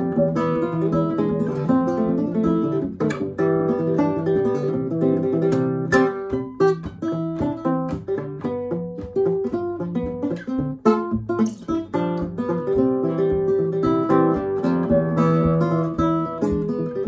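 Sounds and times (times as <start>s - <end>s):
classical guitar fingerstyle: 0.0s - 17.0s.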